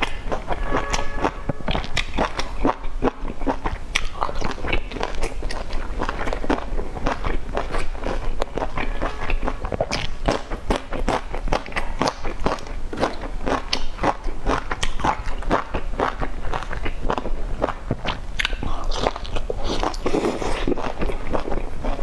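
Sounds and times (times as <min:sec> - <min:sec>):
wet chewing smacks and clicks: 0:00.0 - 0:00.6, 0:01.2 - 0:22.0.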